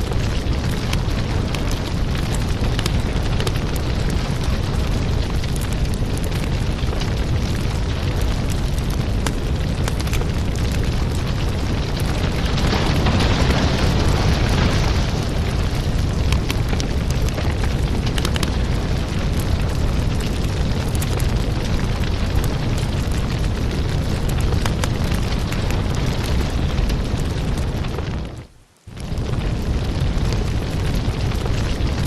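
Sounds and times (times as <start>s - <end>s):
logs crackling and popping: 0.0s - 32.0s
wood fire rumbling: 0.0s - 32.0s.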